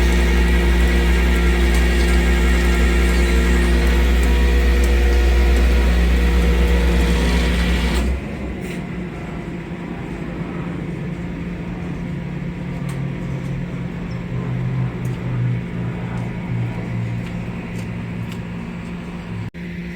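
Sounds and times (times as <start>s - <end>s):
truck engine rumbling: 0.0s - 19.6s
steady whine: 0.0s - 19.9s.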